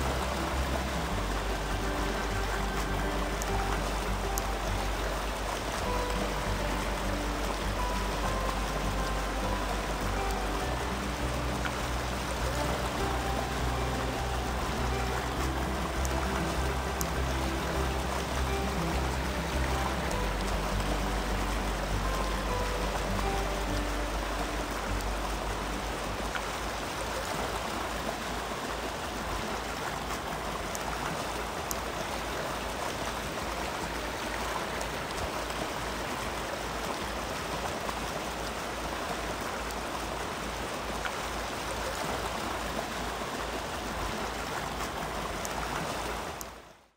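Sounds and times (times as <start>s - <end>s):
river flowing over rapids: 0.0s - 46.9s.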